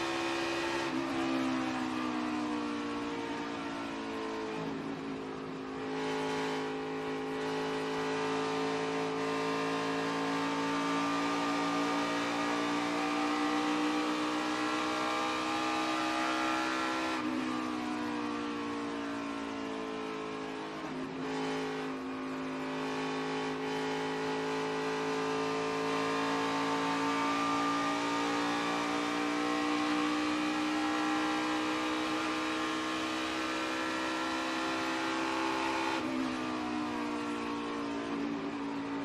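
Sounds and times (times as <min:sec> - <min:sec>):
race car engine at speed: 0:00.0 - 0:39.0.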